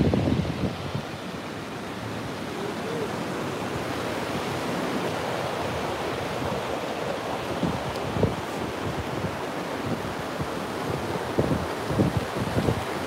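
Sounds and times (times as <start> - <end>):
wind buffeting microphone: 0.0 - 1.5, 2.1 - 13.0
ocean surf breaking: 0.0 - 13.0.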